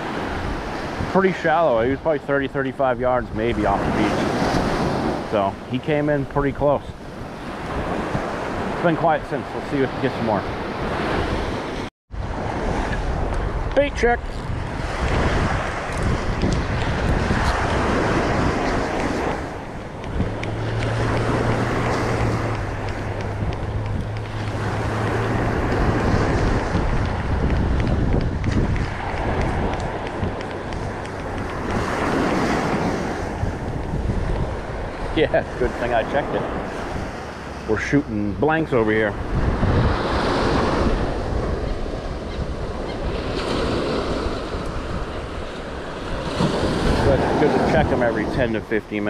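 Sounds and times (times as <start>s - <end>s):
breaking surf: 0.0s - 49.0s
wind buffeting microphone: 0.0s - 49.0s.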